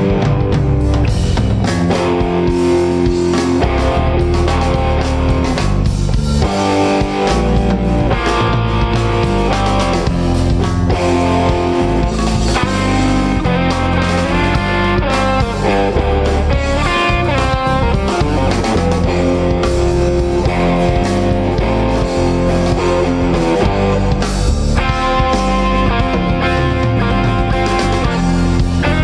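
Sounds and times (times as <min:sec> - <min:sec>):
electric guitar: 0:00.0 - 0:29.0
jazz-fusion band playing live: 0:00.0 - 0:29.0.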